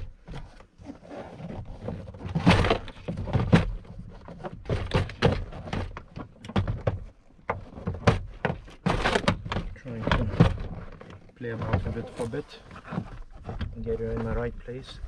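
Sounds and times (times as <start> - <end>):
plastic scraping: 0.0 - 15.0.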